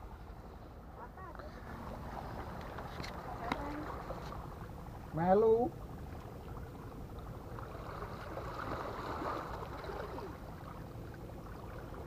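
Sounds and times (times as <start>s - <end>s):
seaside ambient noise: 0.0s - 12.0s.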